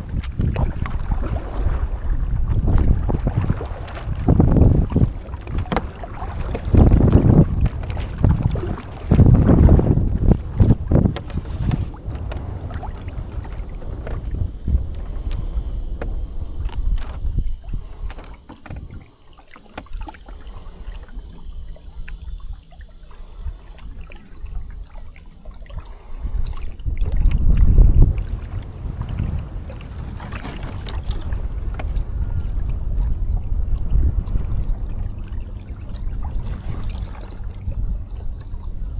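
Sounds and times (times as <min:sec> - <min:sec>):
wind buffeting microphone: 0:00.0 - 0:19.1, 0:25.9 - 0:38.9
water splashing against hull: 0:00.0 - 0:38.9.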